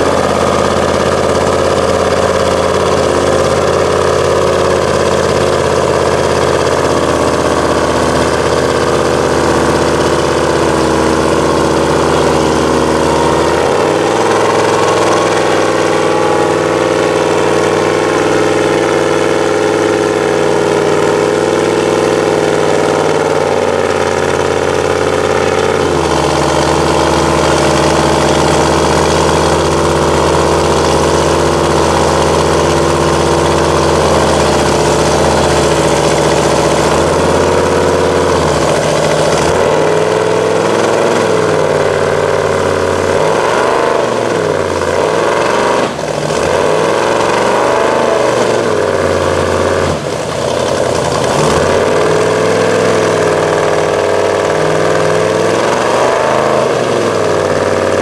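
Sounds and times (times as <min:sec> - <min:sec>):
tires spinning in mud: 0:00.0 - 0:58.0
truck engine revving: 0:00.0 - 0:58.0.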